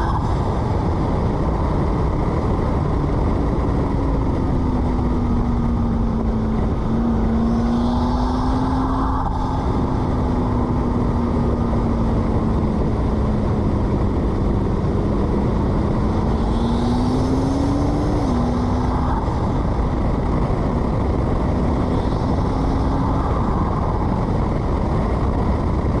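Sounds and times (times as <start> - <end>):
car engine running: 0.0 - 26.0
road noise: 0.0 - 26.0.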